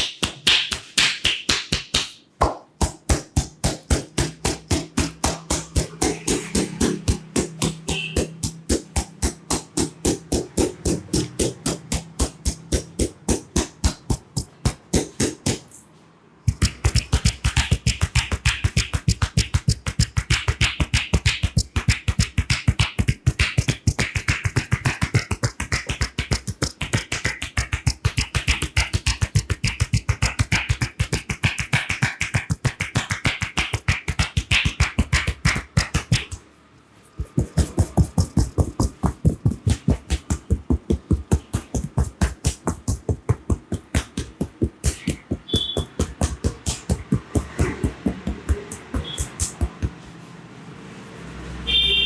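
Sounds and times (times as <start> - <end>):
hands tapping and chopping massage: 0.0 - 15.8, 16.5 - 36.4, 37.0 - 50.2.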